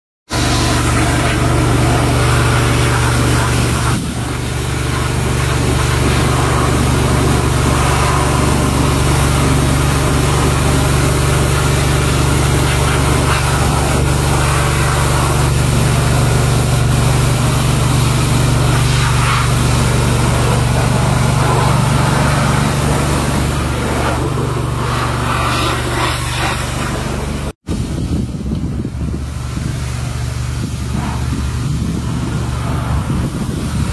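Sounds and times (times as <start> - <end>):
engine drone: 0.3 - 33.9.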